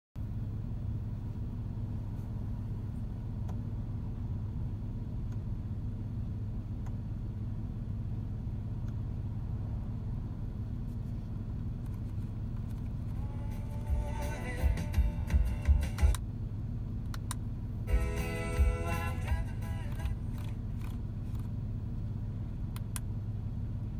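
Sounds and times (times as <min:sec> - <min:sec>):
car engine idling: 0:00.2 - 0:23.9.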